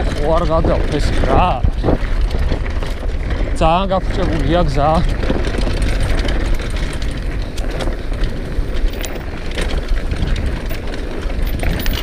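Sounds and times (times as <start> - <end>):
bike rattling over bumps: 0.0 - 12.0
bike tyres rolling over dirt: 0.0 - 12.0
wind buffeting microphone: 0.0 - 12.0.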